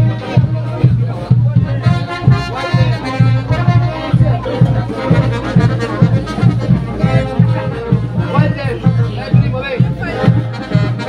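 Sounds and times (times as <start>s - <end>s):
brass band music: 0.0s - 11.0s
steady bass beat: 0.0s - 11.0s.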